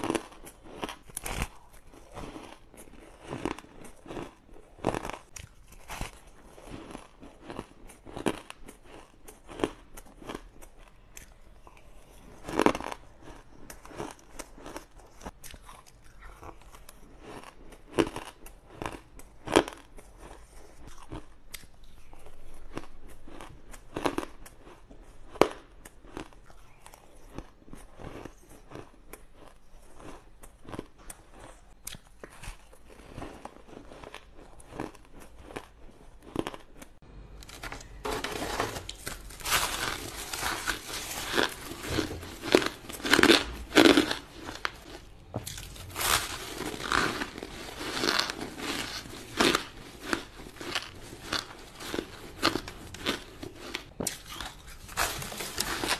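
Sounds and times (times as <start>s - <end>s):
ice being chewed crunching: 0.0s - 37.0s, 38.0s - 55.9s.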